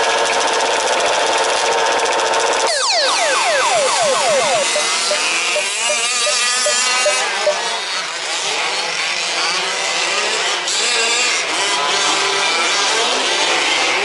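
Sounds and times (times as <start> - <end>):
remote-control truck engines racing: 0.0 - 14.0.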